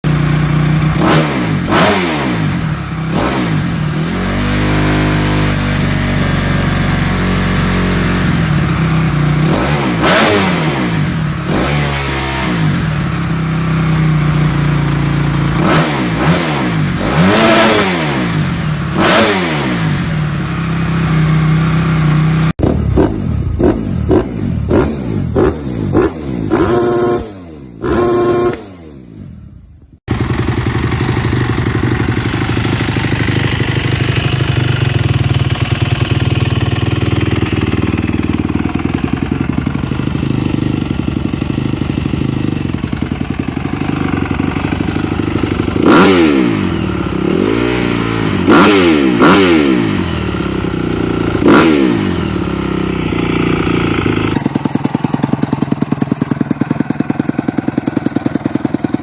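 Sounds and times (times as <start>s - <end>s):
dirt bike engine idling: 0.0s - 26.0s, 29.4s - 48.6s, 49.9s - 59.0s
dirt bike engine revving: 0.1s - 29.3s, 30.1s - 59.0s.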